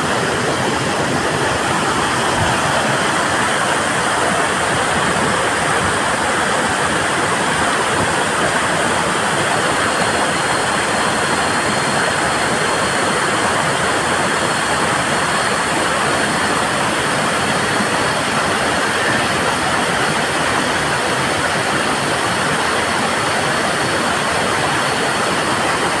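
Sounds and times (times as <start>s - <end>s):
waterfall rushing onto boulders: 0.0s - 26.0s.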